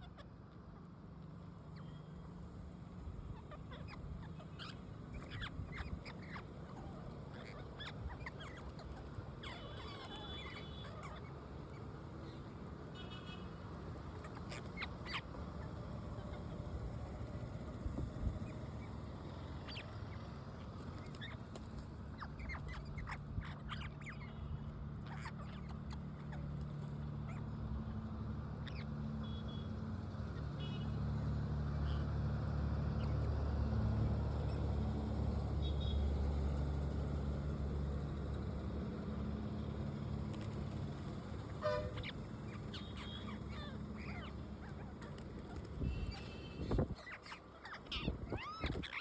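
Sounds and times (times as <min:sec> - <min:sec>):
low engine-like hum: 0:00.0 - 0:49.0.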